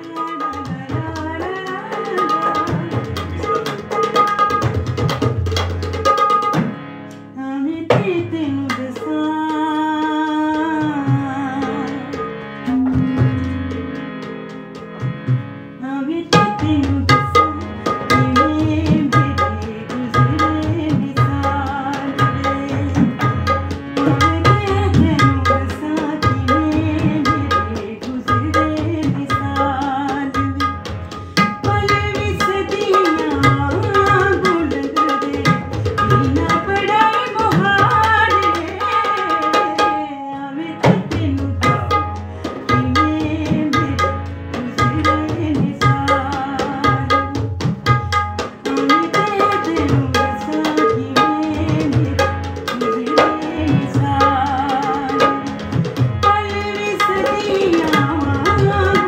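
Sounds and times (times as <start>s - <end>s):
tabla drumming: 0.0s - 59.0s.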